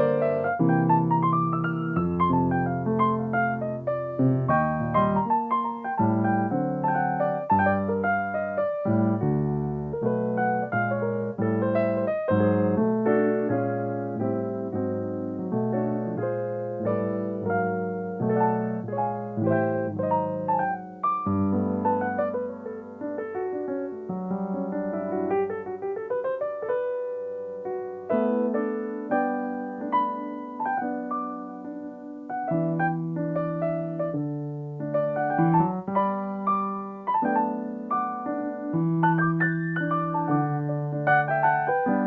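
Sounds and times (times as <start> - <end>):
solo piano: 0.0 - 42.0.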